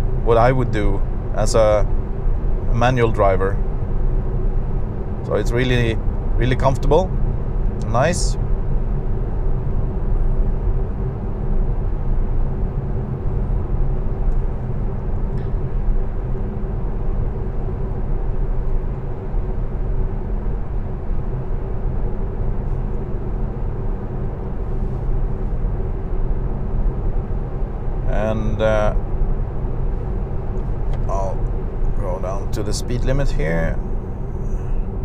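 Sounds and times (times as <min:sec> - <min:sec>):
car cabin road noise: 0:00.0 - 0:35.0.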